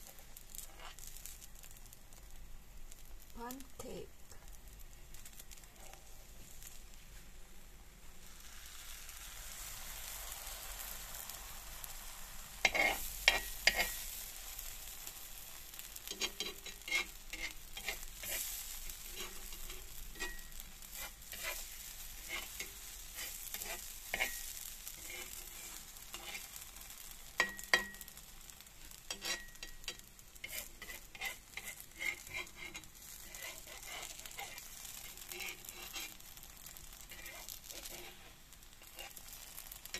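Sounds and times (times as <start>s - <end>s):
metal spatula scraping a pan: 0.0s - 2.2s, 9.5s - 39.9s
pancake batter sizzling in a pan: 0.0s - 39.9s.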